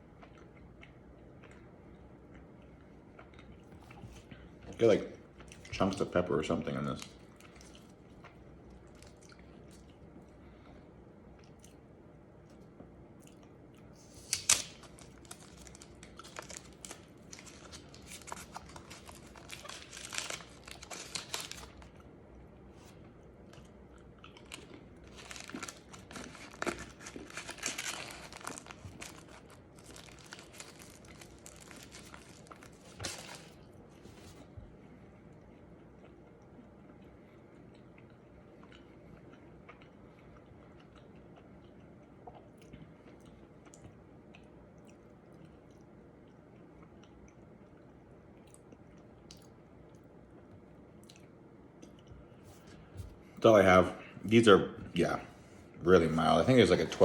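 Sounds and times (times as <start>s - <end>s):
chewing and crunching chocolate: 0.0s - 34.6s, 35.2s - 52.9s.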